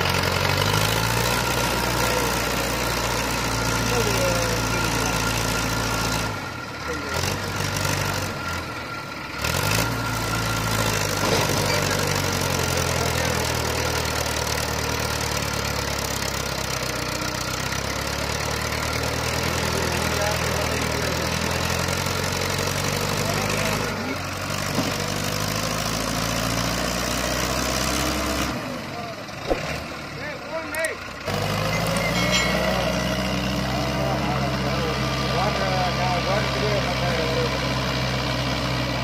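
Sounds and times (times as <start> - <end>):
tractor diesel engines running: 0.0 - 39.0.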